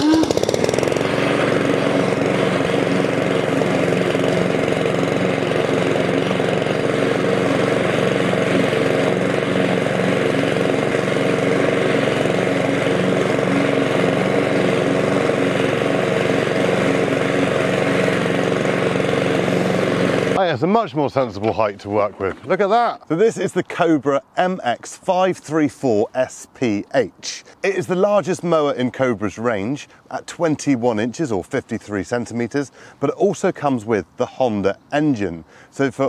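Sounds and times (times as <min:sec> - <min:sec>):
lawn mower cutting grass: 0:00.0 - 0:36.0.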